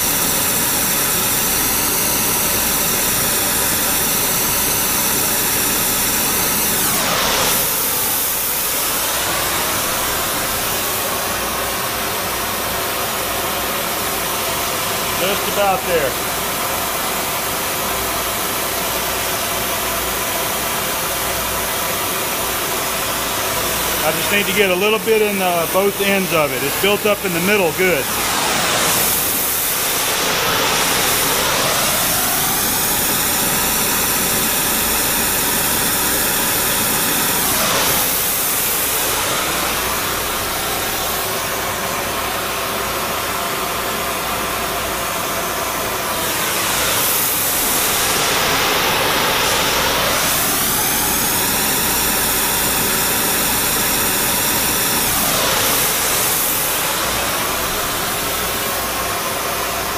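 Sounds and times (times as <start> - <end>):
flame-spray torch hissing: 0.0 - 12.0, 14.1 - 17.2, 22.6 - 41.9, 45.3 - 59.9.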